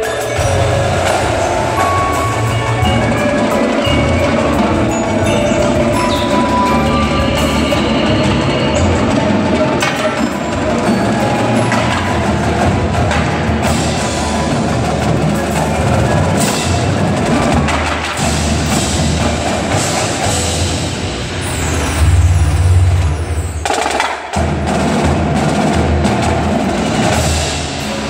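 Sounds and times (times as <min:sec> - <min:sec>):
mallet keyboards playing: 0:00.0 - 0:23.5
marching drums: 0:00.0 - 0:28.0.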